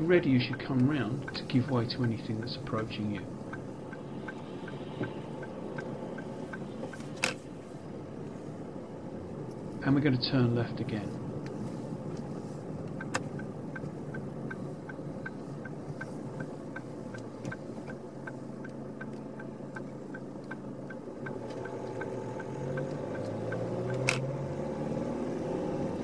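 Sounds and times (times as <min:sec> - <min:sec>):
car engine and tyre hum: 0:00.0 - 0:26.0
turn signal ticking: 0:00.0 - 0:26.0.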